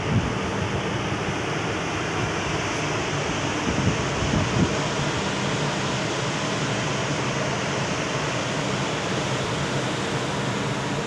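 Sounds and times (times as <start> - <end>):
ship machinery and ventilation drone: 0.0 - 11.0.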